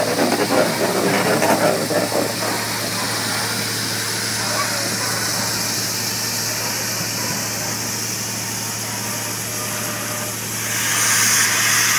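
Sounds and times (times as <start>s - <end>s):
steam locomotive hissing: 0.0s - 11.9s.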